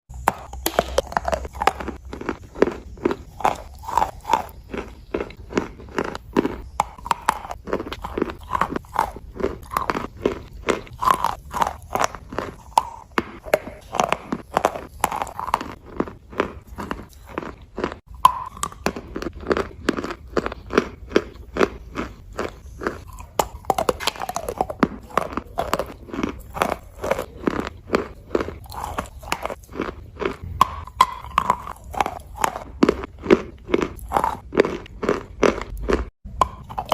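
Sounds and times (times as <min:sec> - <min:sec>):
chalk being chewed crunching: 0:00.1 - 0:36.9.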